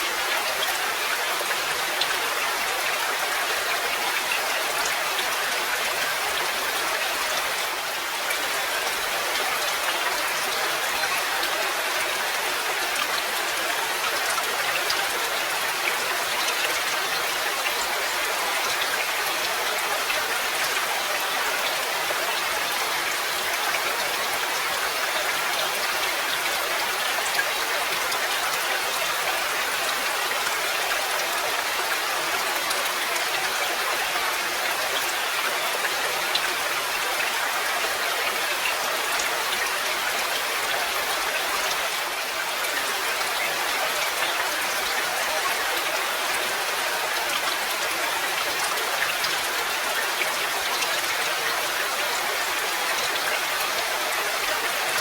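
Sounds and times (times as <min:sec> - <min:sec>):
rain patter: 0:00.0 - 0:55.0.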